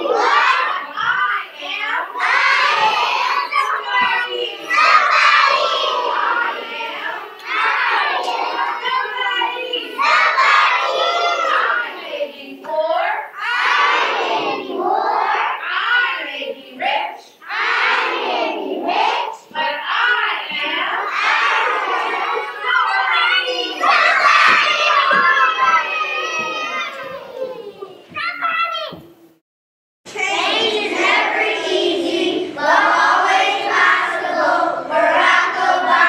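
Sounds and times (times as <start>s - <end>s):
children chanting and singing: 0.0s - 29.2s, 30.1s - 36.0s.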